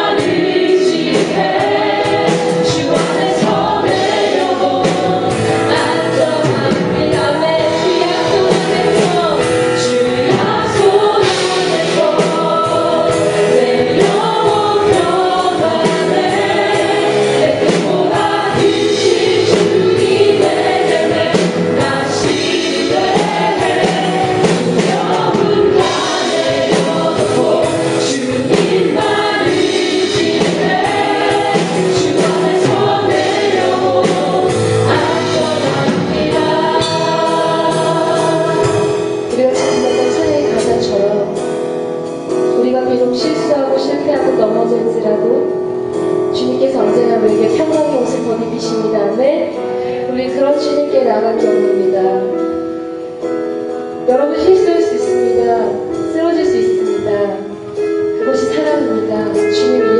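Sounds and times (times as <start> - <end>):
band accompaniment: 0.0 - 59.9
congregation singing worship song: 0.0 - 59.9.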